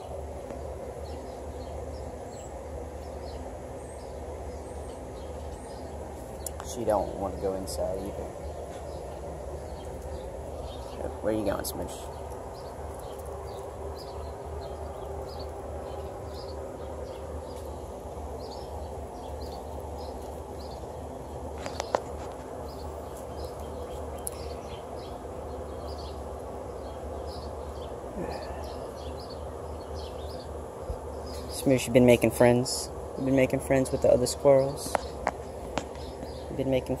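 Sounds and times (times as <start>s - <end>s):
high bird or insect chirps: 0.0s - 37.0s
steady low hum: 0.0s - 37.0s.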